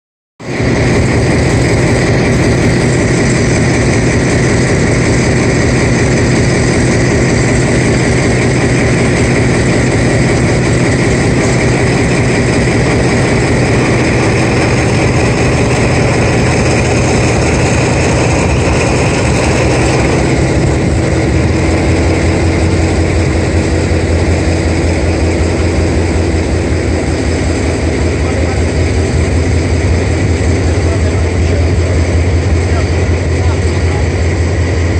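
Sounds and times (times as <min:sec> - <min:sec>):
locomotive engine idling: 0:00.5 - 0:34.9.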